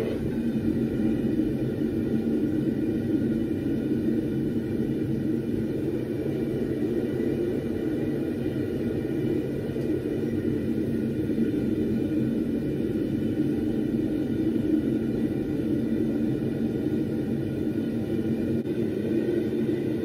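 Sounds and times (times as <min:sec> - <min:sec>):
forge burners rushing: 0:00.0 - 0:20.0.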